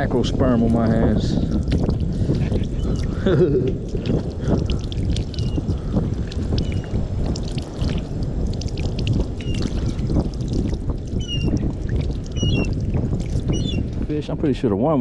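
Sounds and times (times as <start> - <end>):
ocean water washing: 0.0 - 15.0.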